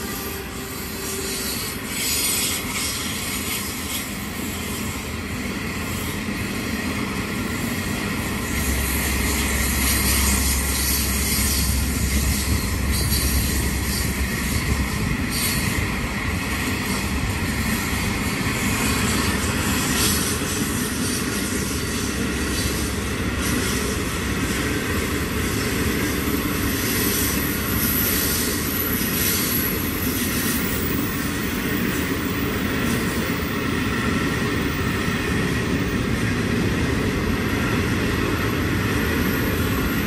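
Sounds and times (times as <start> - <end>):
train wheels on rails: 0.0 - 40.0.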